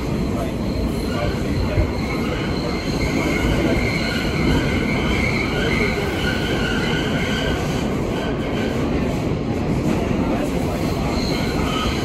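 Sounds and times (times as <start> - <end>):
high squealing of train wheels: 0.0 - 12.0
subway train wheels rumbling: 0.0 - 12.0.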